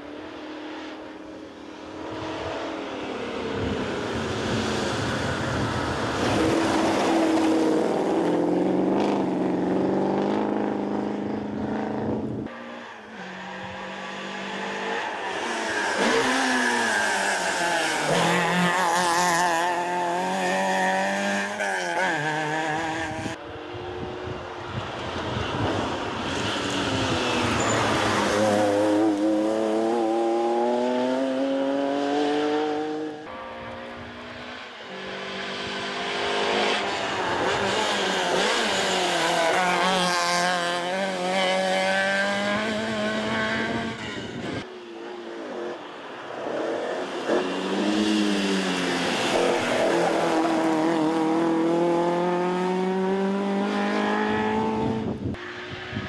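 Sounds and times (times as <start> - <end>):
rally cars accelerating past: 1.9 - 44.4, 46.5 - 56.0.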